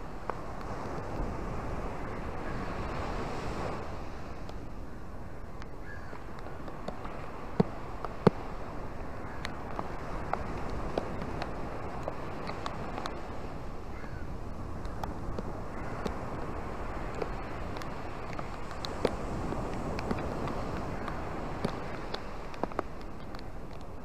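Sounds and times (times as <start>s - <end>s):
rain: 0.0s - 24.0s
small waves washing over sand: 0.0s - 24.0s.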